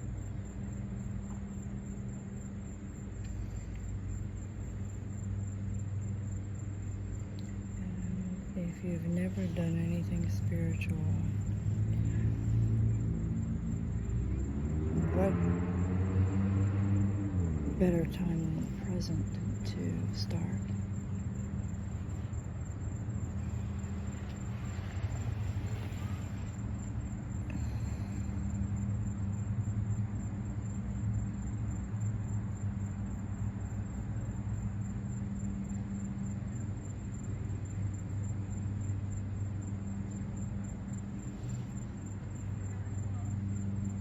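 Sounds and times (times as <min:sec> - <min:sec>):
faint high whine: 0:00.0 - 0:44.0
low rumble and hum: 0:00.0 - 0:44.0.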